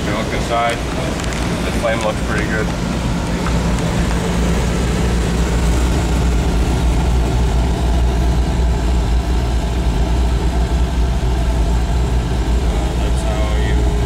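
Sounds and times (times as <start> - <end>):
oil burner rumbling: 0.0 - 14.0.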